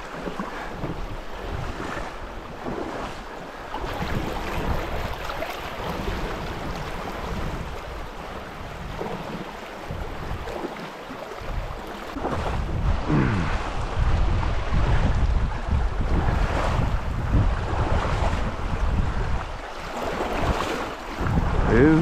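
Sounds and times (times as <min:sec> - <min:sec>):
river water rushing and lapping: 0:00.0 - 0:22.0
wind buffeting microphone: 0:00.0 - 0:22.0.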